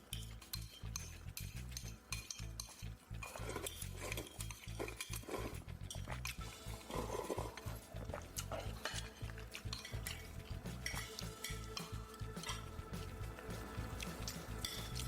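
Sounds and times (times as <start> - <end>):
utensils clinking against dishes: 0.0 - 12.7, 14.0 - 15.0.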